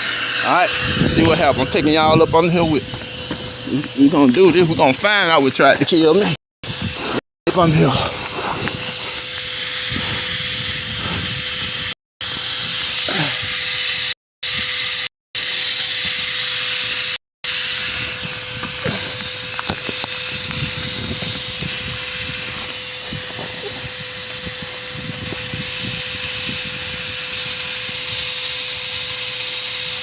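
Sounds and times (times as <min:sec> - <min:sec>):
vacuum motor hissing and whining: 0:00.0 - 0:30.0.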